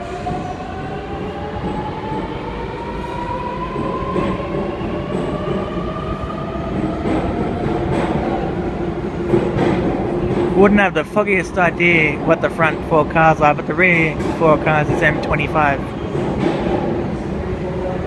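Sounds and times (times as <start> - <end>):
rumble of train cars: 0.0 - 18.0.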